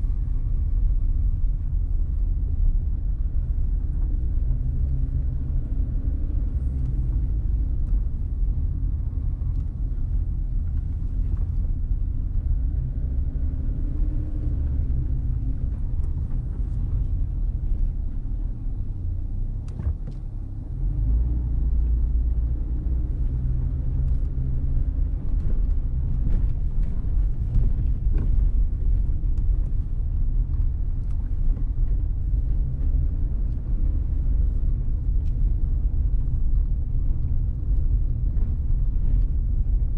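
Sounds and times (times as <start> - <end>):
car driving slowly: 0.0 - 39.9.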